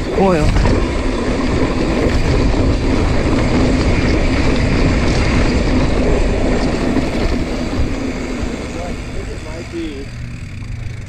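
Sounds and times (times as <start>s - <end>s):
bike tyres rolling on dirt: 0.0s - 11.0s
wind rushing over microphone: 0.0s - 11.0s.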